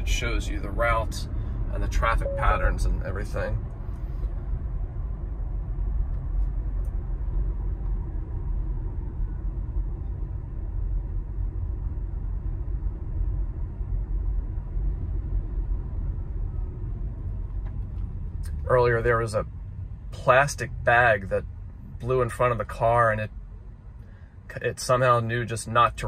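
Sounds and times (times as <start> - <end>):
road rumble and tyre noise: 0.0 - 26.0.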